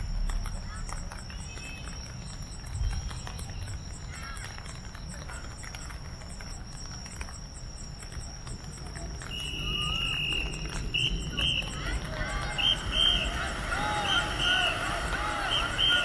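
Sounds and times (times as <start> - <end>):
insects trilling: 0.0 - 16.0
lower-pitched insect trill: 0.0 - 16.0
pulsed insect chirping: 0.0 - 16.0.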